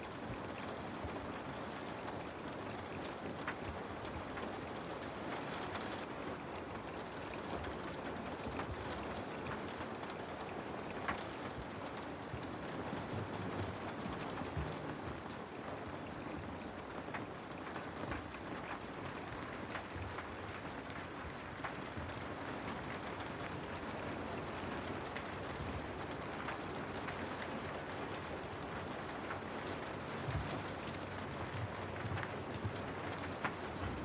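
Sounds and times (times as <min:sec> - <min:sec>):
rain on a window: 0:00.0 - 0:34.0.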